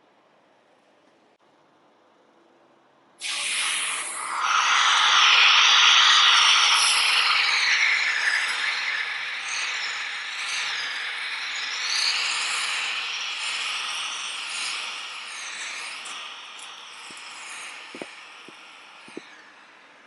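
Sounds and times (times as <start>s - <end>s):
compressed air hissing: 3.2s - 19.6s.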